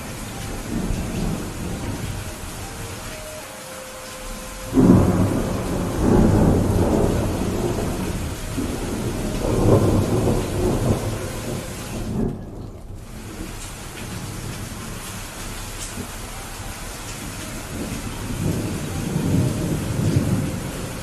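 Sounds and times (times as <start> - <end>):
thunder rumbling: 0.0 - 3.3, 3.9 - 21.0
heavy rain: 0.0 - 21.0.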